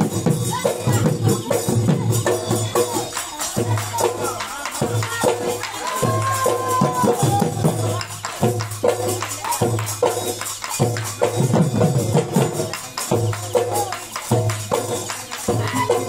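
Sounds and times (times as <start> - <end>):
dhol drum beating: 0.0 - 16.0
jingling percussion: 0.0 - 16.0.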